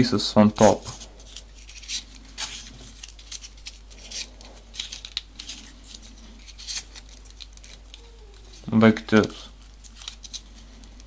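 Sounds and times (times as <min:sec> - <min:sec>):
paper rustling: 0:00.6 - 0:11.0.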